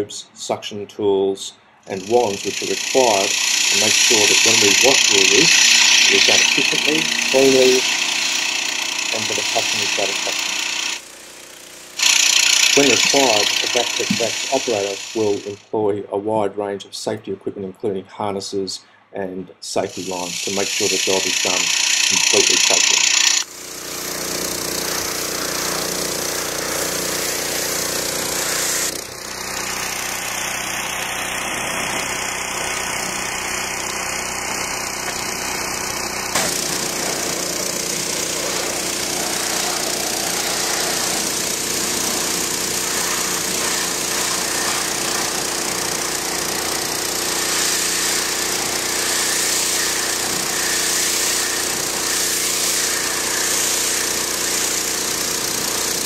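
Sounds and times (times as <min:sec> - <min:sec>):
water blaster engine running: 0:01.9 - 0:15.6, 0:19.8 - 0:56.0
water jet spraying on metal roof: 0:02.2 - 0:15.4, 0:20.0 - 0:22.8, 0:23.4 - 0:56.0.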